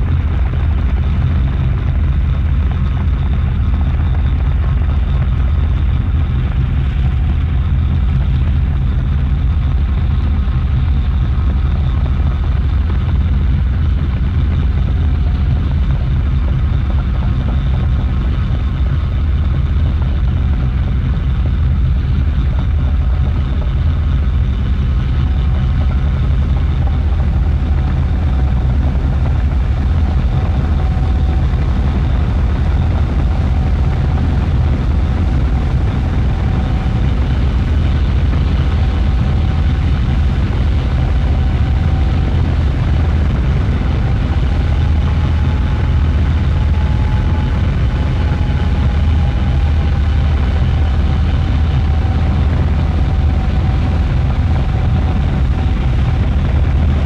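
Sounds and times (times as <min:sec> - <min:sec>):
low drone rumble: 0:00.0 - 0:57.0.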